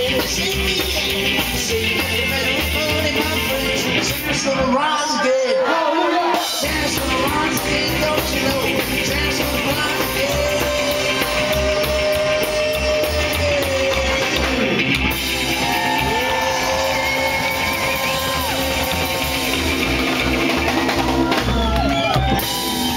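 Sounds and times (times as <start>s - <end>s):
double bass: 0.0s - 4.5s, 6.6s - 22.9s
person singing: 0.0s - 19.4s
live rock and roll band: 0.0s - 22.9s.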